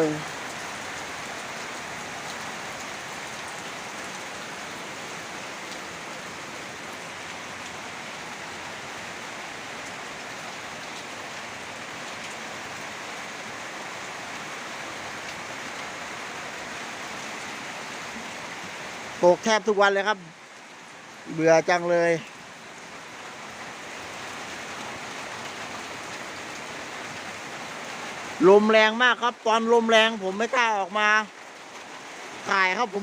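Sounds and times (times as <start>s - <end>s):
heavy rain pouring: 0.0s - 33.0s
raindrops ticking on surfaces: 0.0s - 33.0s.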